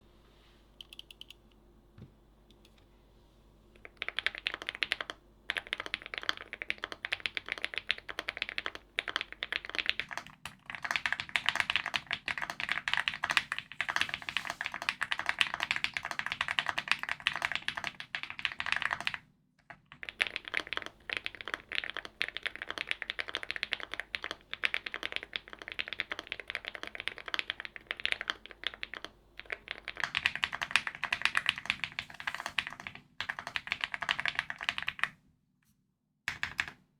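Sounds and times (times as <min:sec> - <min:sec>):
mechanical keyboard typing: 0:00.8 - 0:01.4, 0:03.8 - 0:19.2, 0:19.8 - 0:35.1, 0:36.3 - 0:36.8.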